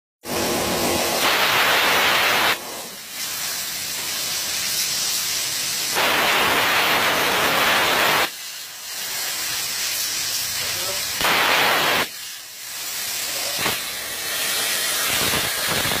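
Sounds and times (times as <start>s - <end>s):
plasma torch arc hissing: 0.2s - 16.0s.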